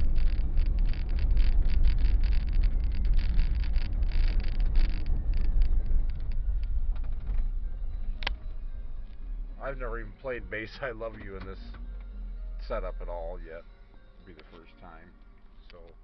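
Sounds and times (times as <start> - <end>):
tyre and road rumble inside car: 0.0 - 13.4
dense crackle: 0.0 - 16.0.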